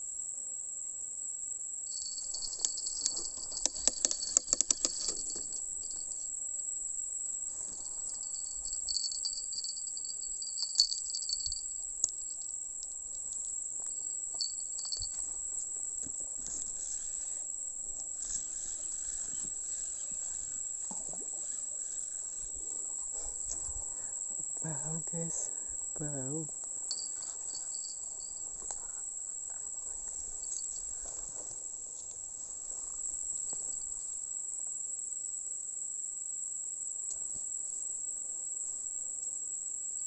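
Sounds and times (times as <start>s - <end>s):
low insect trill: 0.0s - 40.0s
high-pitched insect chorus: 1.4s - 40.0s.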